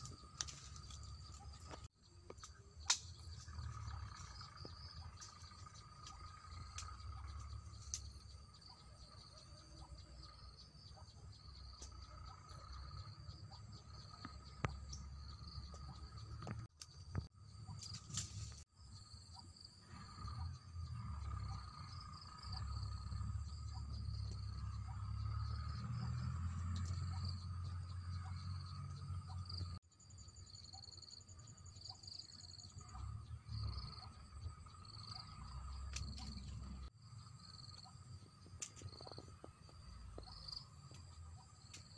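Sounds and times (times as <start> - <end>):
insects buzzing drone: 0.0 - 41.9.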